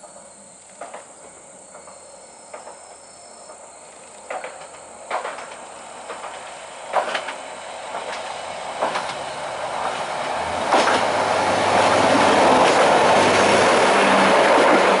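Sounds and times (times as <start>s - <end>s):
diesel railcar engine running: 0.0s - 15.0s
wheels clicking over rail joints: 0.6s - 15.0s.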